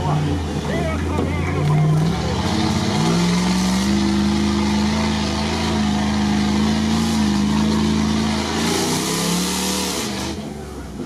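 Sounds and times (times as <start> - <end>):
water rushing around vehicle: 0.0 - 11.0.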